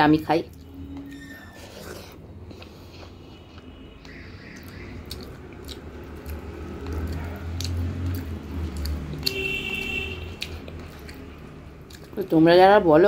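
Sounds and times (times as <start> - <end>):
wet chewing: 1.6 - 12.4.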